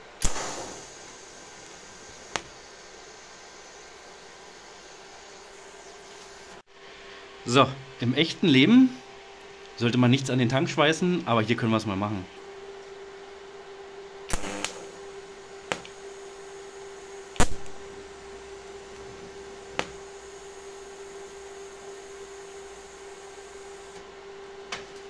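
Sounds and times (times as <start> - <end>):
welding arc buzzing hum: 0.0 - 6.7, 8.6 - 25.0.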